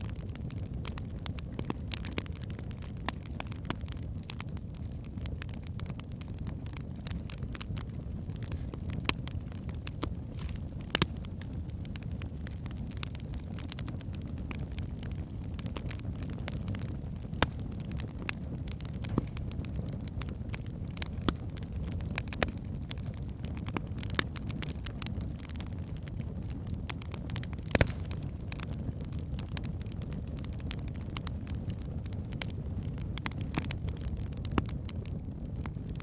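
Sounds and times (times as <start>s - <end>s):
fire flames rumbling: 0.0s - 36.0s
logs crackling and popping: 0.0s - 36.0s.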